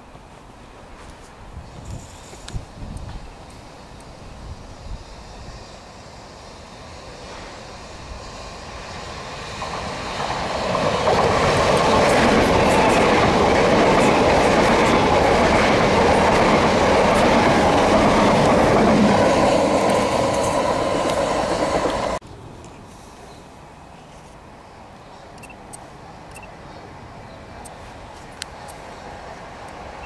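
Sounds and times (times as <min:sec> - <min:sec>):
train passing at speed: 0:00.0 - 0:22.2, 0:26.0 - 0:30.0.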